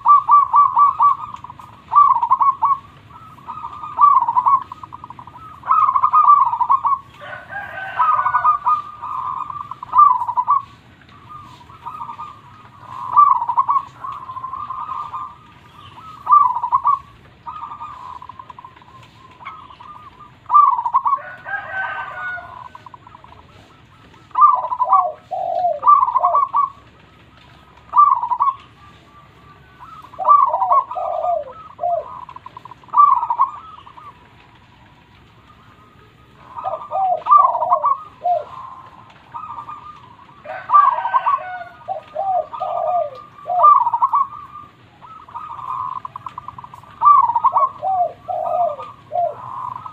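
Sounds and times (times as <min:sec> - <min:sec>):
dove rippling coos: 0:00.0 - 0:49.9
lower falling coo notes: 0:00.0 - 0:49.9.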